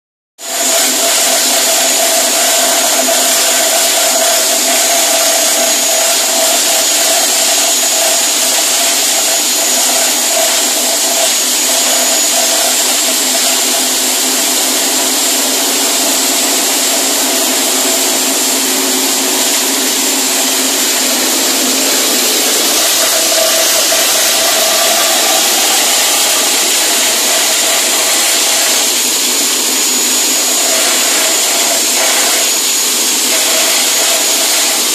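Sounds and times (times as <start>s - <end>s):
petrol engine chopper whirring: 0.4s - 34.9s.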